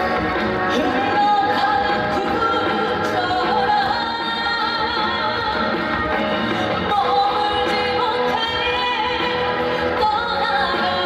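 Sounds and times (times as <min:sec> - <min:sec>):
upbeat backing music: 0:00.0 - 0:11.0
woman singing: 0:00.6 - 0:11.0.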